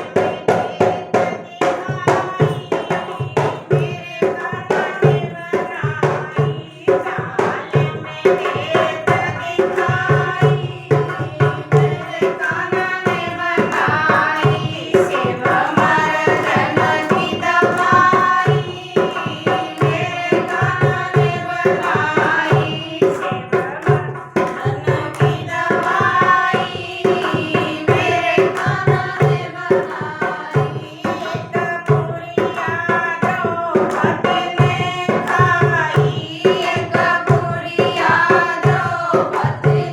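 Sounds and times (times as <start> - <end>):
hand drum beat: 0.0 - 39.9
woman singing: 0.0 - 39.9.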